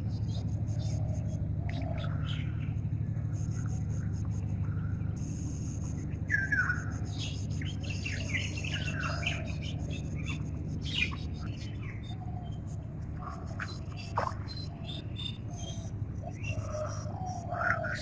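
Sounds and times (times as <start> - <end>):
steady low hum: 0.0 - 18.0
birds chirping and calling: 0.1 - 3.1, 5.9 - 18.0.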